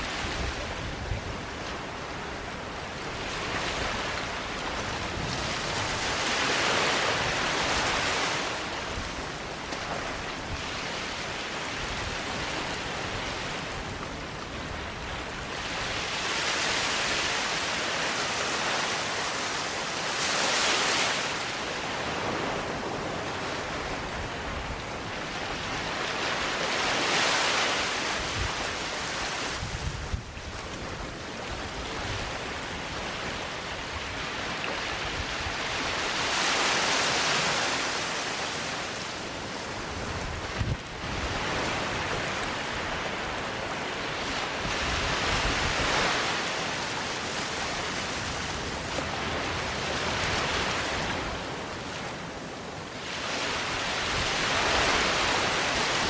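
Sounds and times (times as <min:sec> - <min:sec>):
small waves breaking on a beach: 0:00.0 - 0:56.0
wind rumble on microphone: 0:00.0 - 0:56.0.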